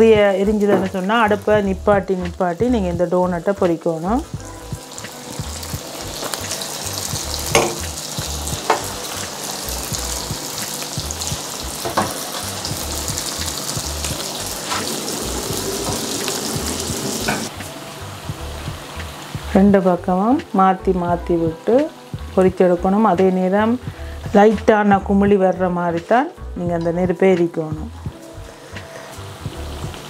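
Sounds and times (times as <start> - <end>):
doughnuts sizzling in oil: 0.0 - 25.6, 28.1 - 30.0.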